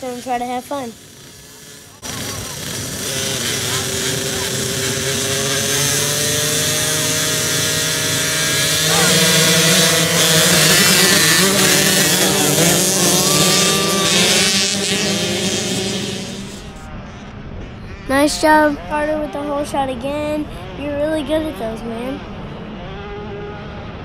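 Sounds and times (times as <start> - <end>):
dirt bikes revving: 0.0 - 24.0.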